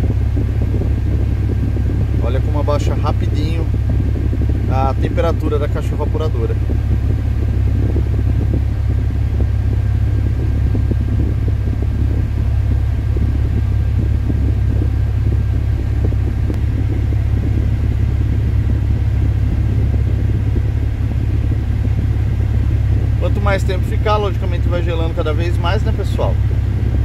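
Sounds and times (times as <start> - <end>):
air conditioning running: 0.0 - 27.0
car engine idling: 0.0 - 27.0.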